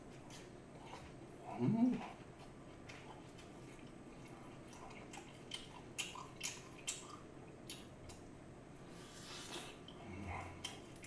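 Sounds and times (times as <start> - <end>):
faint room hiss: 0.0 - 11.0.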